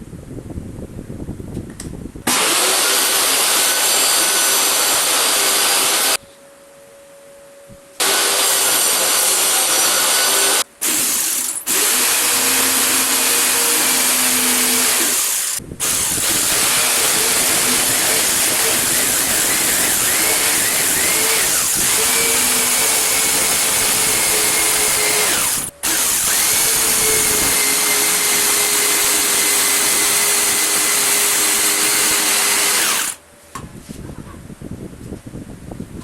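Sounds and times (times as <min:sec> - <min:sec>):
power tool whining: 0:02.3 - 0:06.2, 0:08.0 - 0:33.2.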